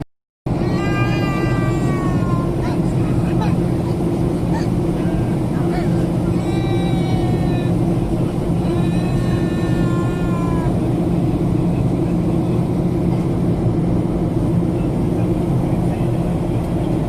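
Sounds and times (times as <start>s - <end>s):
airliner engine drone in cabin: 0.5s - 17.0s.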